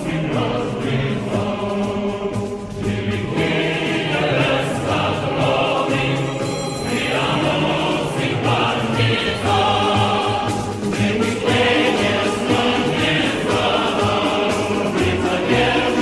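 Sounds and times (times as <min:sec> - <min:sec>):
choir singing a march: 0:00.0 - 0:16.0.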